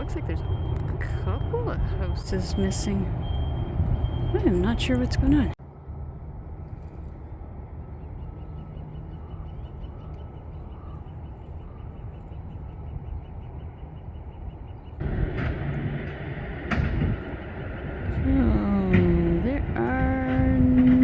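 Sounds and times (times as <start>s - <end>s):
distant traffic and machinery rumble: 0.0s - 21.0s.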